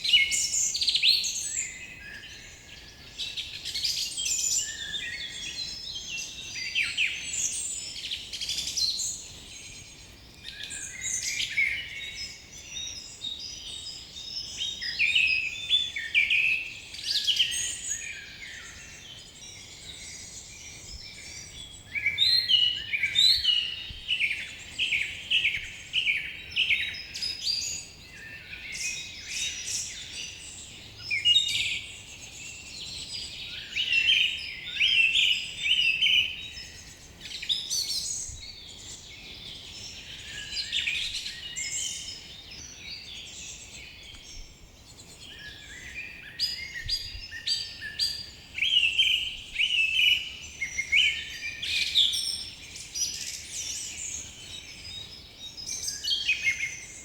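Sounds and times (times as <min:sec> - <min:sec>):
birds chirping and trilling: 0:00.2 - 0:57.0.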